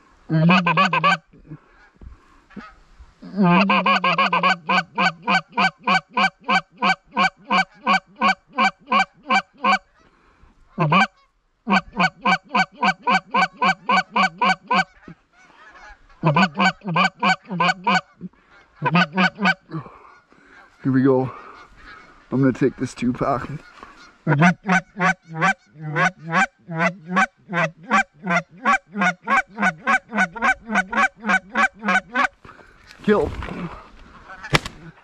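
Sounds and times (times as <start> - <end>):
goose call honking and clucking: 0.3 - 10.1, 10.7 - 32.4, 33.6 - 35.0.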